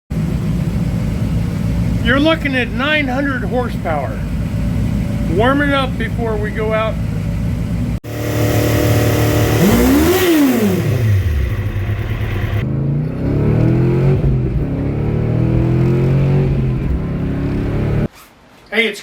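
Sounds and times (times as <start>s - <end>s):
car engine revving: 0.1s - 18.1s.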